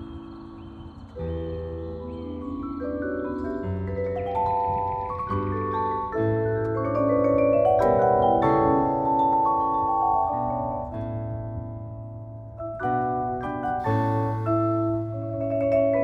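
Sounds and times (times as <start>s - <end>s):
mallet keyboards playing chords: 0.0s - 16.0s.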